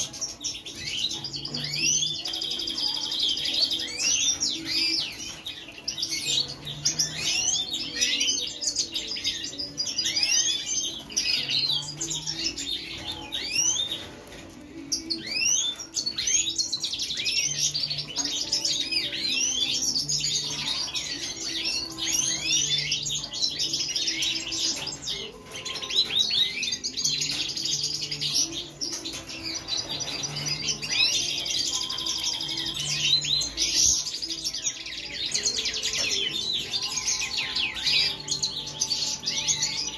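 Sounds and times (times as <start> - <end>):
finches twittering and chirping: 0.0 - 39.9.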